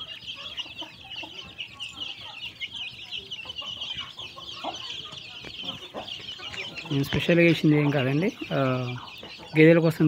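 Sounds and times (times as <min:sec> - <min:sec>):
chicken clucks: 0:00.0 - 0:10.0
chicks peeping: 0:00.0 - 0:10.0.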